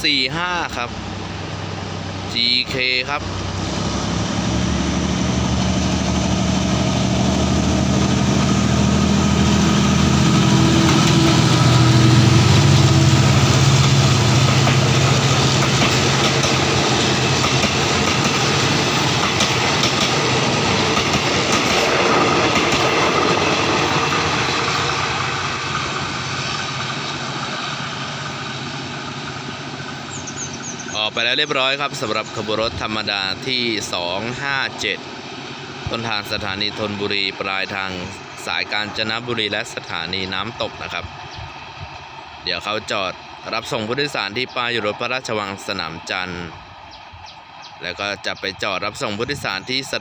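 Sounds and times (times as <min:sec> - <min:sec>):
locomotive engine drone: 0:00.0 - 0:50.0
train wheels rumbling on rails: 0:00.2 - 0:50.0.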